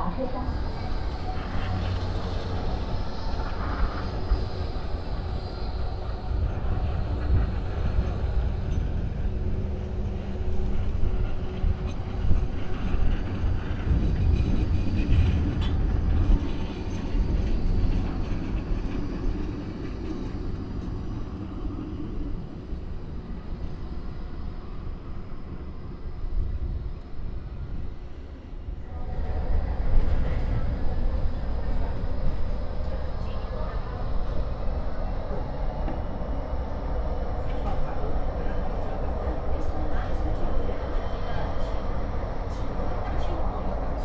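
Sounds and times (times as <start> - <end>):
tram rumbling past on rails: 0.0 - 44.0.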